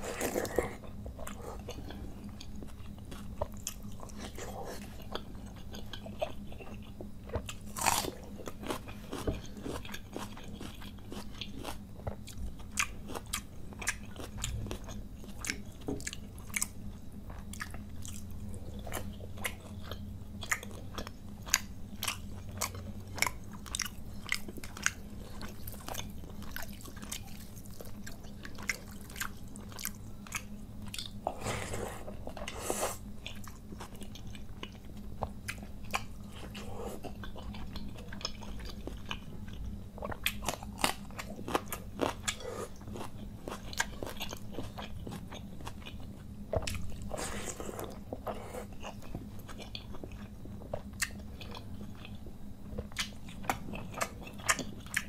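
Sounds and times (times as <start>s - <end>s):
crunchy chewing: 0.0s - 55.0s
faint low hum: 0.0s - 55.0s.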